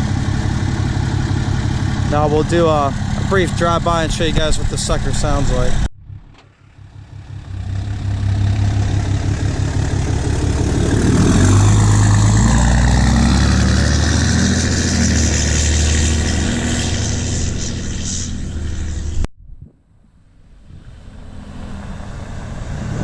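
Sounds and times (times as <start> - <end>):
diesel truck exhaust driving past: 0.0 - 19.3, 20.3 - 23.0.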